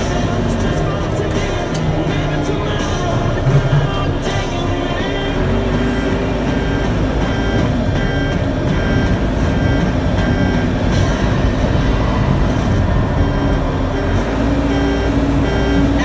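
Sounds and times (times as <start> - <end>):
diesel engine running: 0.0 - 16.0
radio playing: 0.0 - 16.0.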